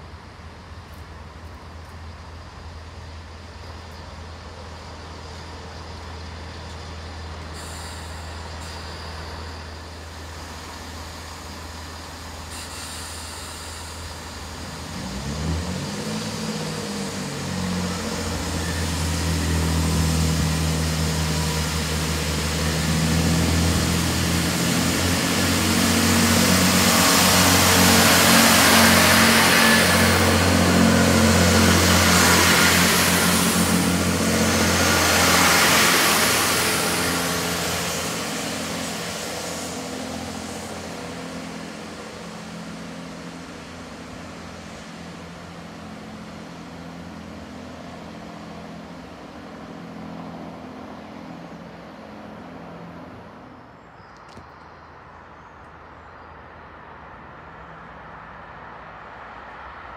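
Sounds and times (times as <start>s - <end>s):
diesel train engine: 0.0s - 54.2s, 54.9s - 59.9s.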